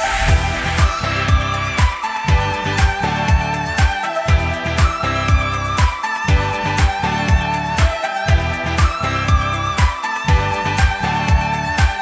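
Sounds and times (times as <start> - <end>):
dance music with kick drum: 0.0 - 12.0.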